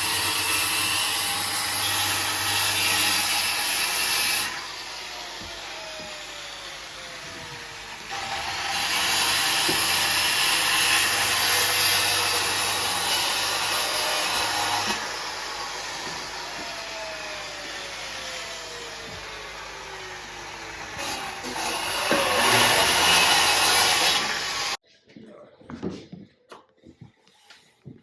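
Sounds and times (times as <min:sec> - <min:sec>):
power tool running: 0:00.0 - 0:24.8.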